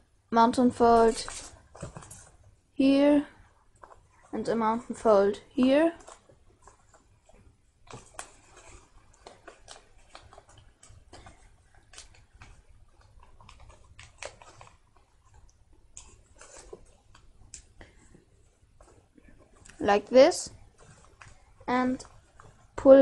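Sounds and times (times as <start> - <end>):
paper crinkling and rustling: 0.8 - 2.5, 3.7 - 23.0.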